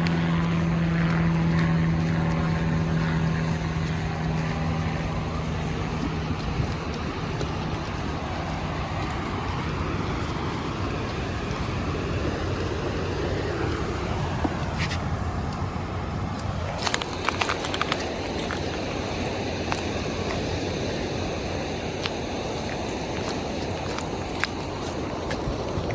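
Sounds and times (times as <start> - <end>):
passing cars: 0.0 - 25.9.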